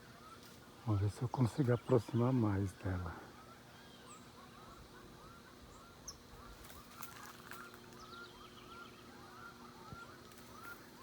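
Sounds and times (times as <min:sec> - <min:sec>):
small bird chirping: 0:01.2 - 0:11.0.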